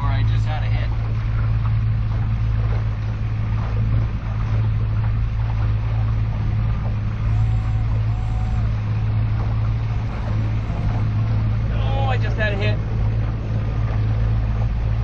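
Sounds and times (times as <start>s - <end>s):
outboard motor droning: 0.0s - 15.0s
water noise: 0.0s - 15.0s
wind: 0.0s - 15.0s.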